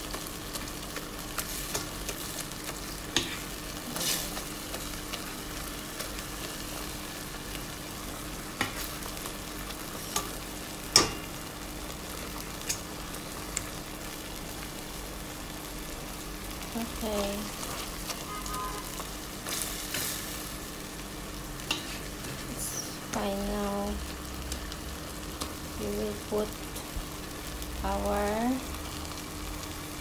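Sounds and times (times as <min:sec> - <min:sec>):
food sizzling in a metal pot: 0:00.0 - 0:30.0.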